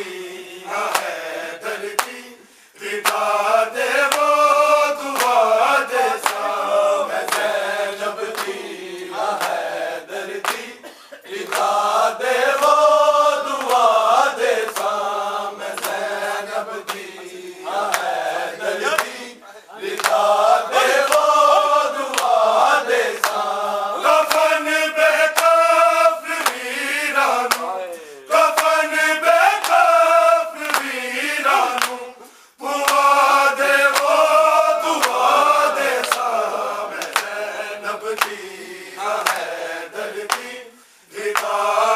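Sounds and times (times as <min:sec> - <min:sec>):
men chanting in unison: 0:00.0 - 0:41.9
rhythmic chest slaps: 0:00.0 - 0:41.9.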